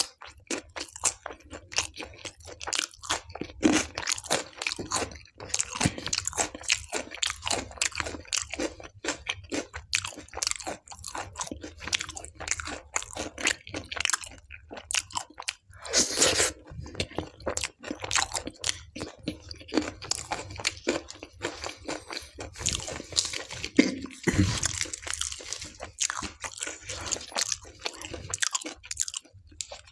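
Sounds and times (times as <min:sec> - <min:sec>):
wet chewing and crunching: 0:00.0 - 0:29.9.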